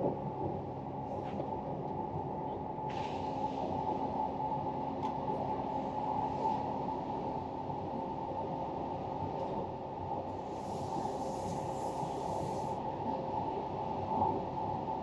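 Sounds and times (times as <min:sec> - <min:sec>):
train running noise inside cabin: 0:00.0 - 0:15.0.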